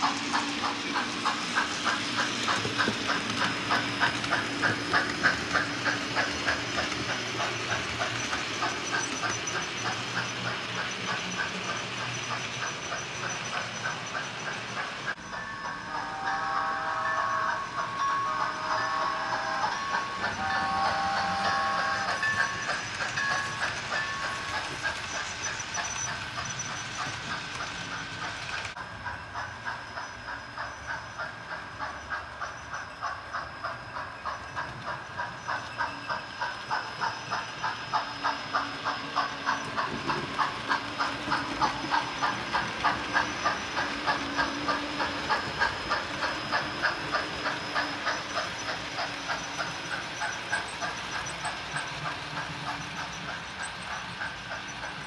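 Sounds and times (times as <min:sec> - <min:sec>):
hiss of steam: 0:00.0 - 0:55.0
model steam locomotive chuffing: 0:00.0 - 0:55.0.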